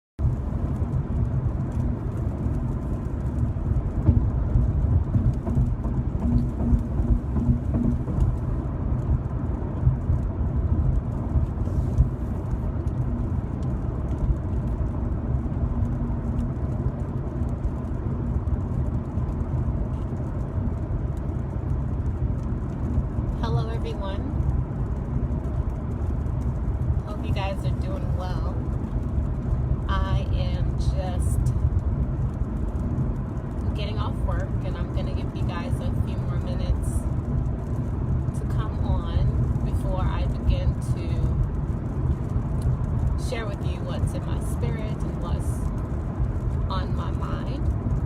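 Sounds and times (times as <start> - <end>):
car interior road and engine rumble: 0.2 - 48.0.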